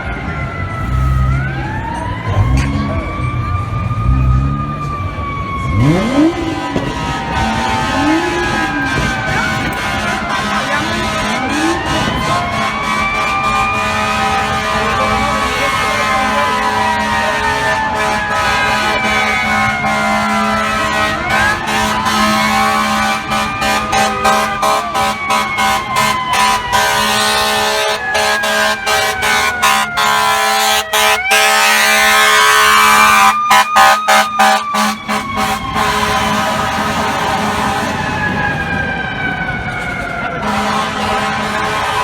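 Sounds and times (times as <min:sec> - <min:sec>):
fire truck siren wailing: 0:00.0 - 0:42.0
air horn blasts: 0:05.8 - 0:38.1, 0:40.4 - 0:42.0.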